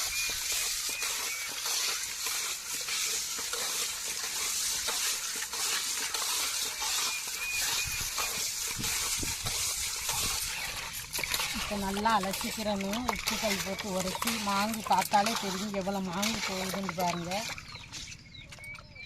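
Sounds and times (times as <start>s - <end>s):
salt rasping on fish skin: 0.0s - 17.8s.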